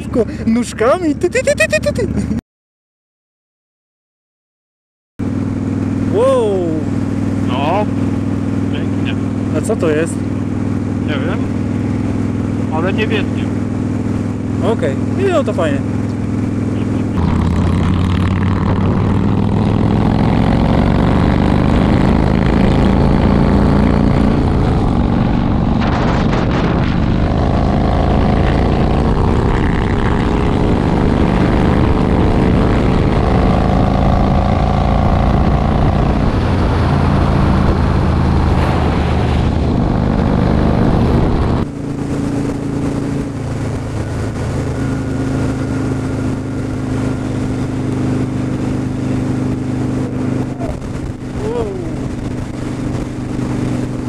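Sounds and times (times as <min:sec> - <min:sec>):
motorcycle engine accelerating: 0:00.0 - 0:02.4, 0:05.2 - 0:54.0.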